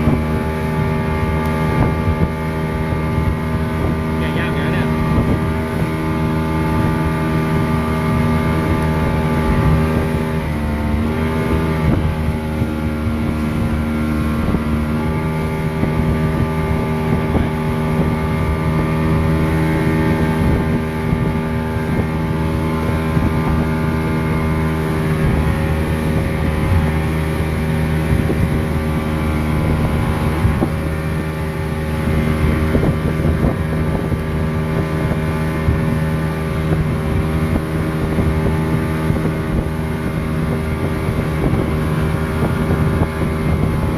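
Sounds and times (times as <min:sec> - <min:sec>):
motorboat engine running: 0:00.0 - 0:43.9
wind buffeting microphone: 0:00.0 - 0:43.9.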